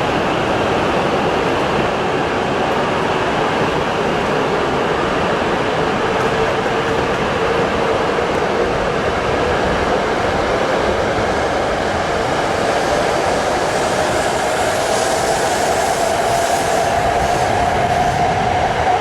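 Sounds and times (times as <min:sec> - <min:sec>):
rising train whine: 0:00.0 - 0:19.0
train wheels and motors running: 0:00.0 - 0:19.0.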